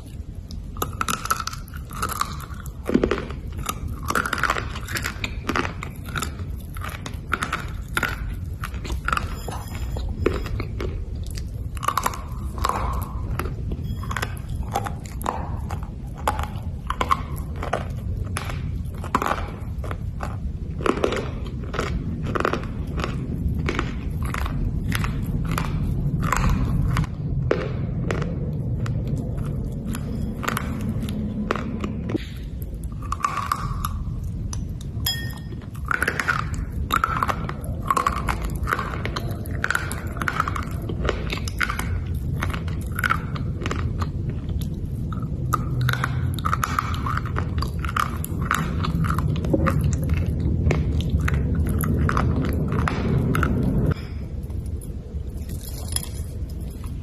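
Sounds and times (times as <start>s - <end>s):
low background hum: 0.0s - 57.0s
person chewing slate crunches: 0.0s - 57.0s.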